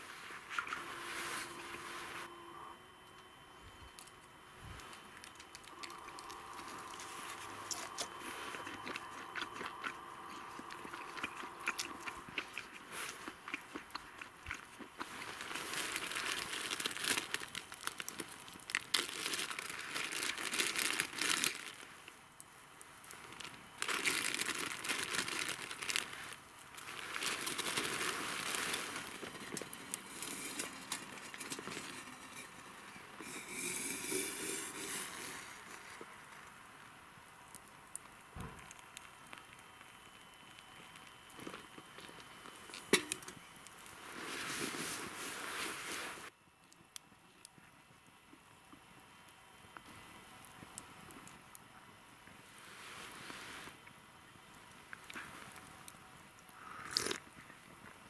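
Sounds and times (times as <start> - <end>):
campfire crackling and popping: 3.1 - 44.3, 46.6 - 52.5.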